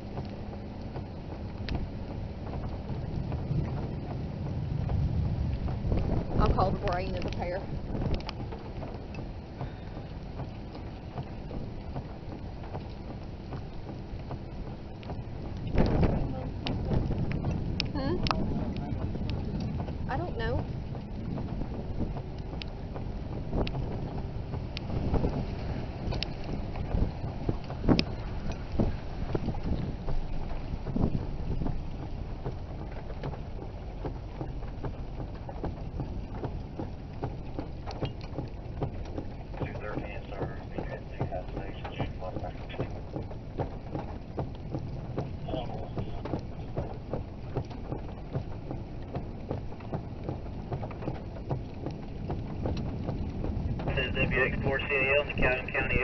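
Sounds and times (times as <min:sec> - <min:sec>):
light ticks: 0:00.0 - 0:04.2, 0:04.8 - 0:55.7
wind rumbling on microphone: 0:00.0 - 0:56.0.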